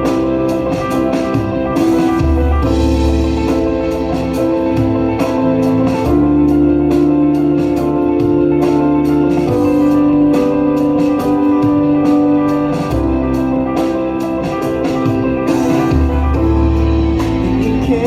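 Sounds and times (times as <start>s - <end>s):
light steady beat: 0.0s - 18.0s
sustained keyboard chords: 0.0s - 18.0s.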